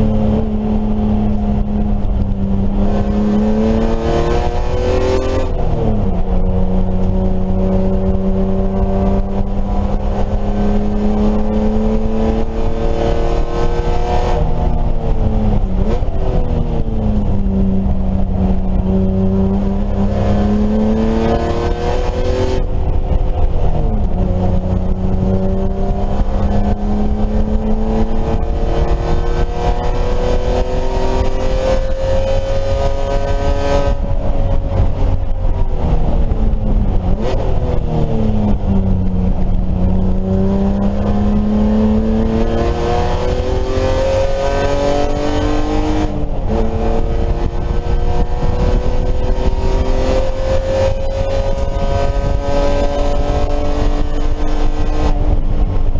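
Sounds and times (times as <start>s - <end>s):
race car engine running hard: 0.0s - 55.9s.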